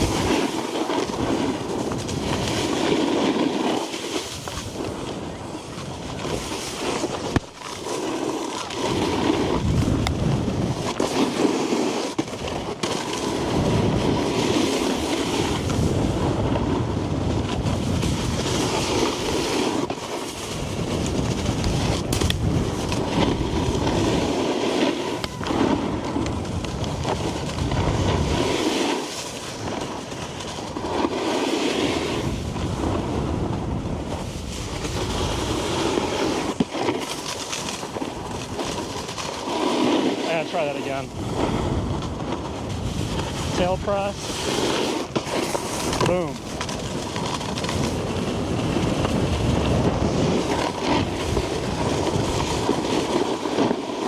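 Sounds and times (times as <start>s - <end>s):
snowboard scraping over snow: 0.0s - 54.0s.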